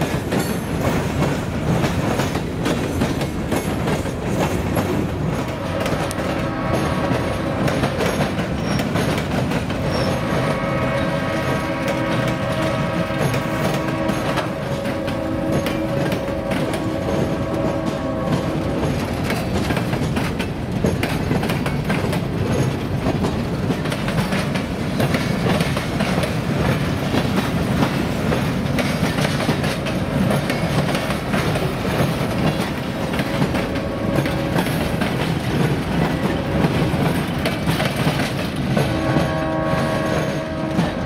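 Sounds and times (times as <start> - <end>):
train wheels clattering over rails: 0.0 - 41.0.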